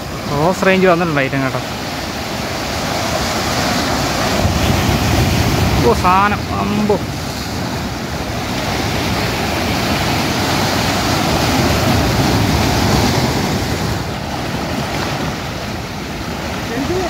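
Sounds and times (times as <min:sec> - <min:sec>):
sea surf breaking on rocks: 0:00.0 - 0:17.0
wind on microphone: 0:01.7 - 0:17.0.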